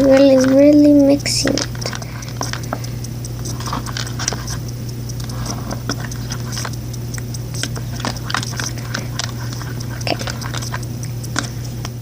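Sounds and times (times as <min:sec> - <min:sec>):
slime squelching: 0:00.0 - 0:12.0
steady low hum: 0:00.0 - 0:12.0.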